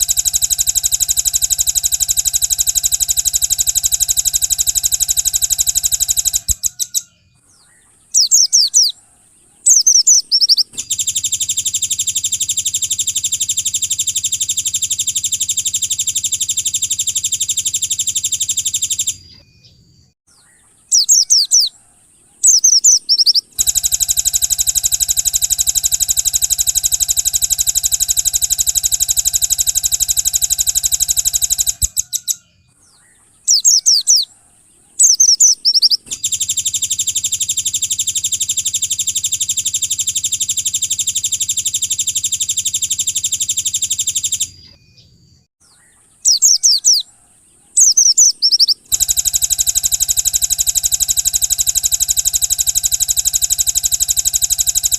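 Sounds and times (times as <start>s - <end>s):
high gliding bird chirps: 0.0s - 54.9s
rapid bird trills: 0.0s - 54.9s.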